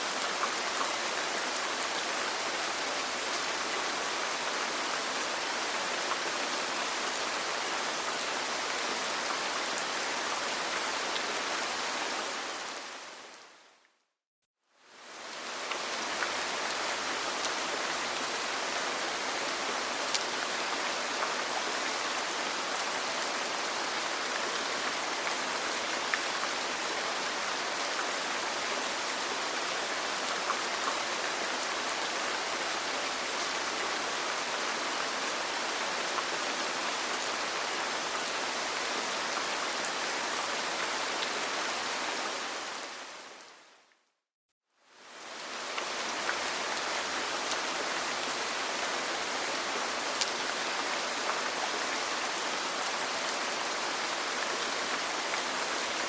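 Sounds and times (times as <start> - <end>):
rain on a roof: 0.0 - 13.8, 14.8 - 43.9, 44.8 - 56.0.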